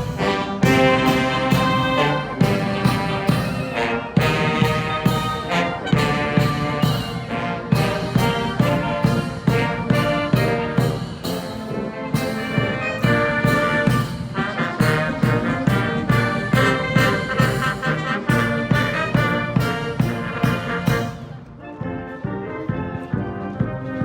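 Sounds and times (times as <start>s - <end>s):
drum beat: 0.0s - 21.2s
military band playing a march: 0.0s - 24.0s.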